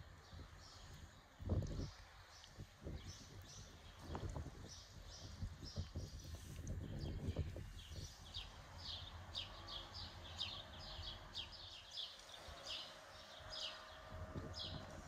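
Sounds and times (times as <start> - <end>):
songbird chirping: 0.2 - 15.0.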